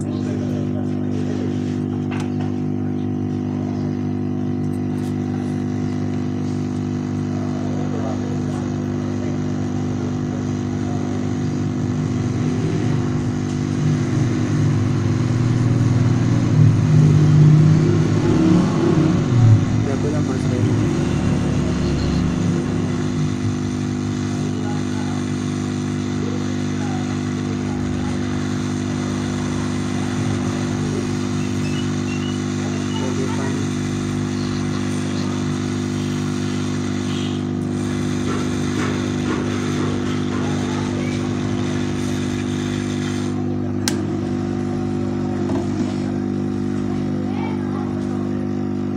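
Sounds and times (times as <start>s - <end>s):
steady machine hum: 0.0s - 48.9s.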